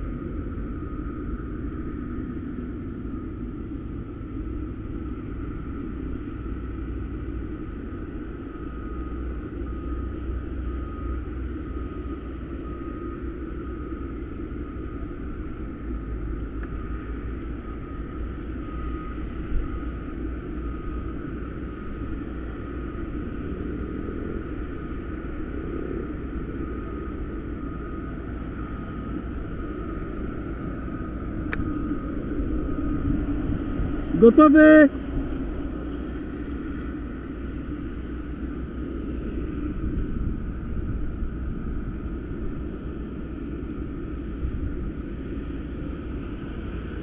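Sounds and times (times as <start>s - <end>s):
muffled road traffic rumble: 0.0s - 47.0s.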